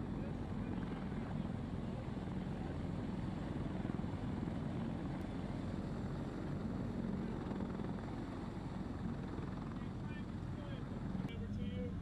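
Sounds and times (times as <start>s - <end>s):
helicopter engine noise: 0.0s - 12.0s
helicopter rotor beat: 0.0s - 12.0s.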